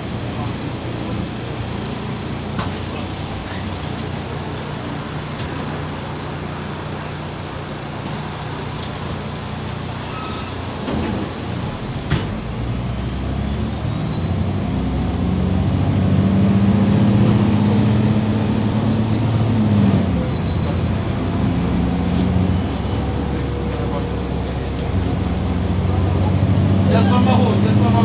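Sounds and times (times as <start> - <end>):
bus diesel engine: 0.0 - 28.0
high drivetrain whine: 1.0 - 28.0.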